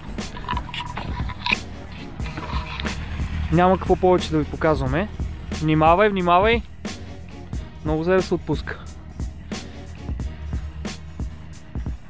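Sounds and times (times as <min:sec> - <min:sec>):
low steady rumble: 0:00.0 - 0:12.0
music with a regular beat: 0:00.0 - 0:12.0.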